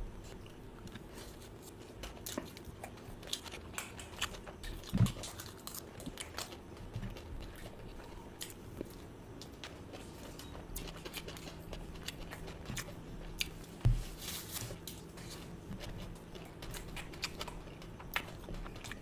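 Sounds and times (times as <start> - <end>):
person chewing food: 0.2 - 19.0.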